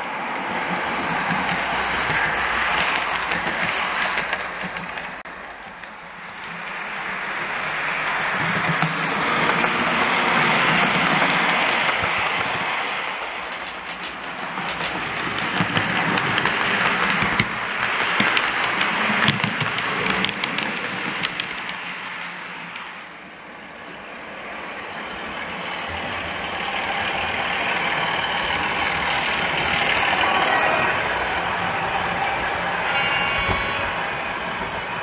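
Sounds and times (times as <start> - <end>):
model diesel locomotive running: 0.0 - 35.0
model train wheels rumbling: 0.0 - 35.0.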